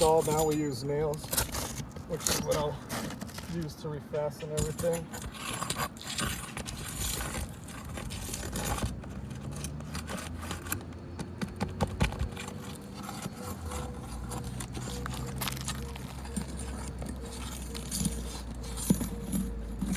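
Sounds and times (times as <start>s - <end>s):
tool clicking against shingles: 0.0s - 3.7s, 4.4s - 19.9s
scraping and rustling of shingles: 0.0s - 19.9s.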